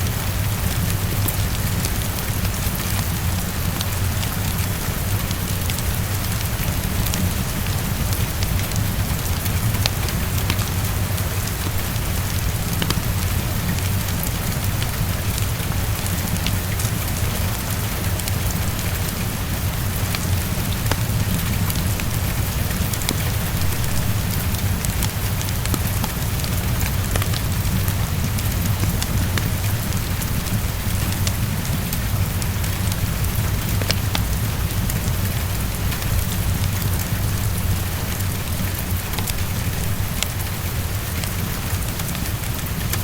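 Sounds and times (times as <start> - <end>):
constant low rumble: 0.0 - 43.0
heavy rain against a window: 0.0 - 43.0
wood fire crackling: 0.1 - 43.0.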